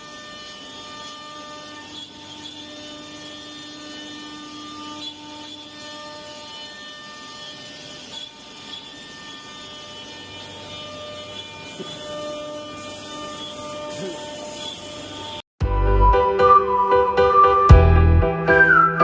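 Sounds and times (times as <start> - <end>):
woodworking machine humming and whining: 0.0 - 15.4.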